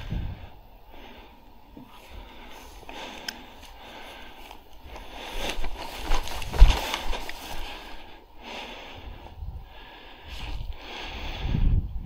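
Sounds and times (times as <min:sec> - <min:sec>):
rustling through long grass: 0:00.0 - 0:08.9, 0:09.8 - 0:11.2
close-up breathing: 0:00.0 - 0:12.0.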